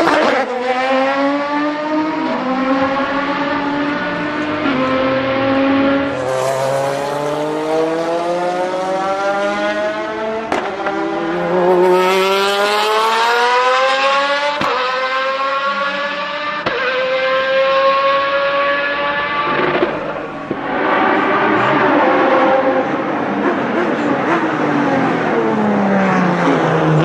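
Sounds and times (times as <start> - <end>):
race car accelerating past: 0.0 - 27.0.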